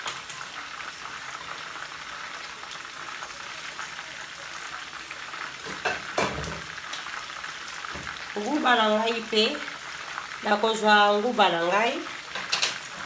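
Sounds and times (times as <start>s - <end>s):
meat frying in oil: 0.0s - 13.0s.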